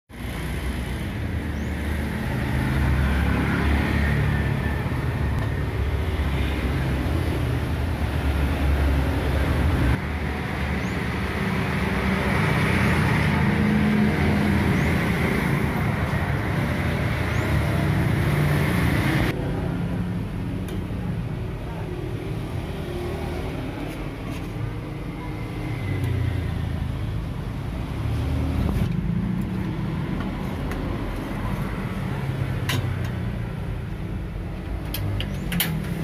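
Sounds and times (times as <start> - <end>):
passing vehicles rumble: 0.1 - 36.0.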